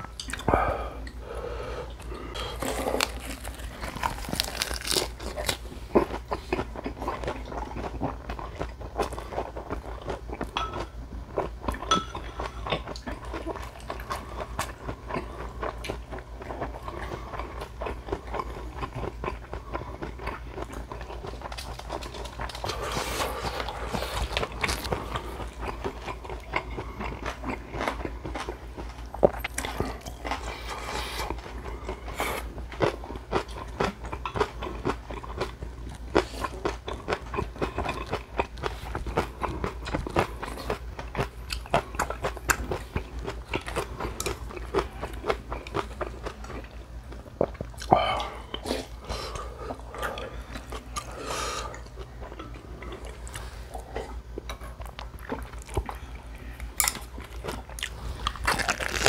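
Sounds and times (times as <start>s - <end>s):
person chewing with wet smacks: 2.0s - 59.0s.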